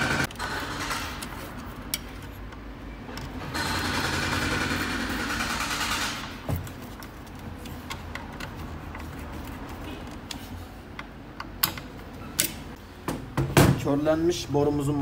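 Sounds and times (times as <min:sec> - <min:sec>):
tools and metal parts clicking: 0:00.2 - 0:12.8.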